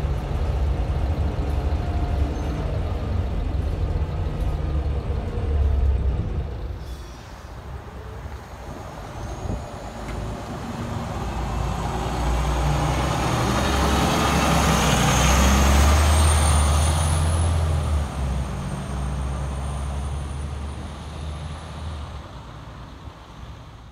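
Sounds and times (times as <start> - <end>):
bus diesel engine driving past: 0.0 - 23.9.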